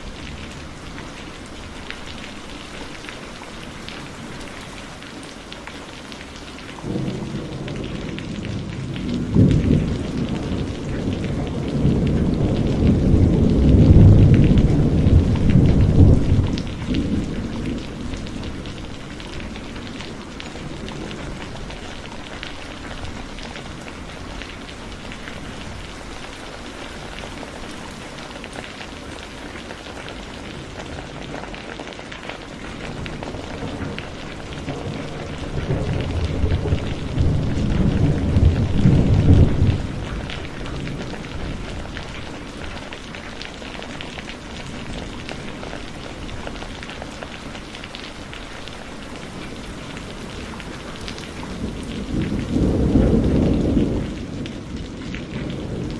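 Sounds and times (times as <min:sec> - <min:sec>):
heavy rain falling: 0:00.0 - 0:55.9
thunder rumbling: 0:06.7 - 0:55.9.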